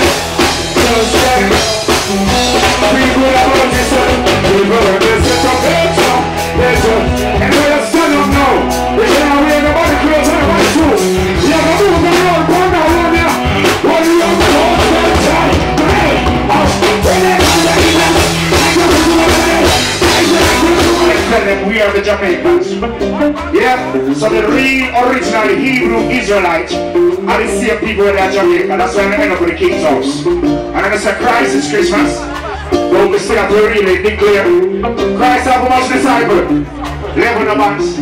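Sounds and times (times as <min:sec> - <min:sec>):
man singing: 0:00.0 - 0:38.0
reggae band playing: 0:00.0 - 0:38.0.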